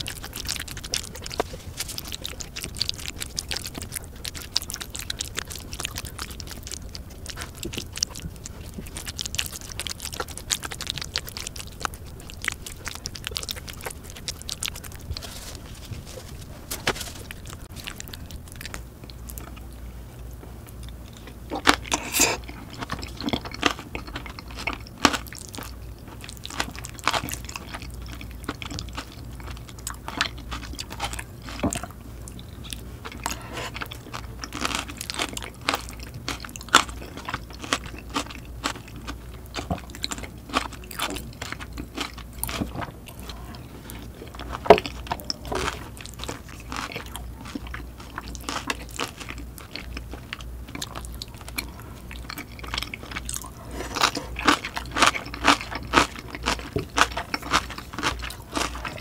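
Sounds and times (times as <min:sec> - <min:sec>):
close chewing with mouth clicks: 0:00.0 - 0:59.0
crunching while chewing: 0:00.0 - 0:59.0.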